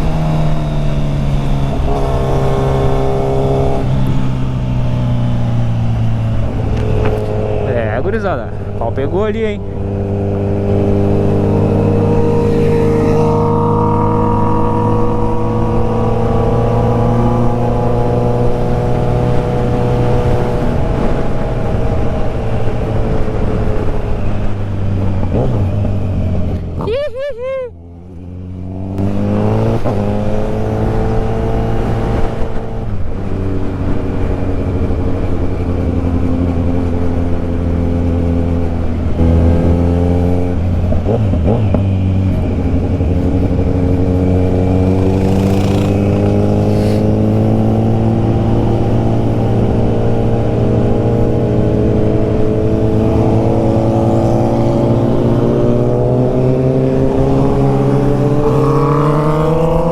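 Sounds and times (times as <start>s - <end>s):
motorcycle engine running: 0.0s - 27.1s, 27.7s - 59.9s.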